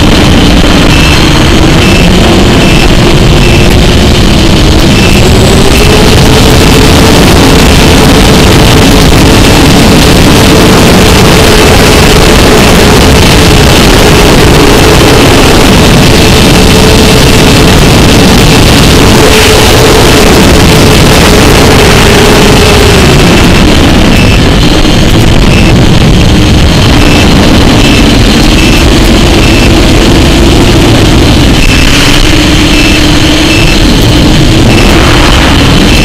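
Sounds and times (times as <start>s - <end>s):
steady hum: 0.0s - 36.0s
wind buffeting microphone: 0.0s - 36.0s.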